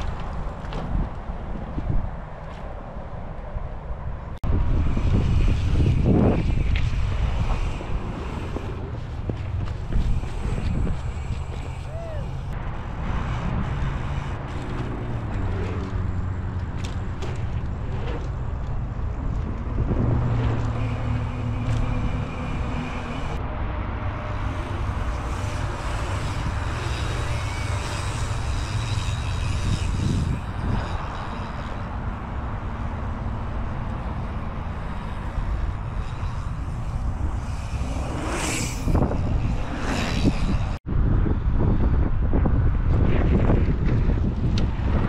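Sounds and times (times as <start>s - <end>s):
bike tyres rolling on asphalt: 0.0s - 45.0s
wind buffeting microphone: 0.0s - 45.0s.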